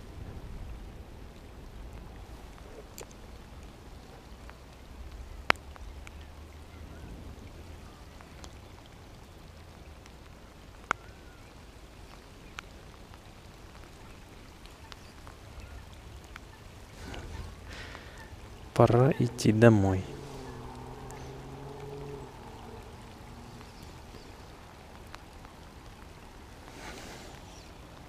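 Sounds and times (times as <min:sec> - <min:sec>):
light rain on a pond: 0:00.0 - 0:28.0.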